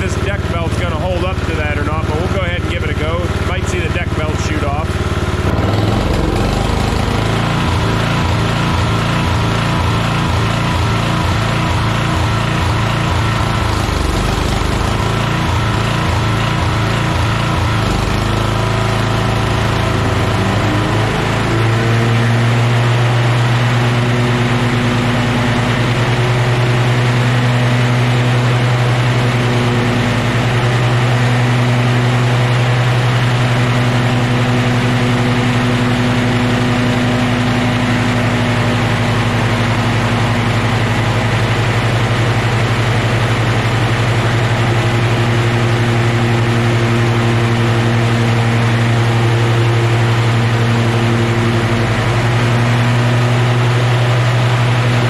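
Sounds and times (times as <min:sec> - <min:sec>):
lawn tractor engine surging: 0:00.0 - 0:55.0.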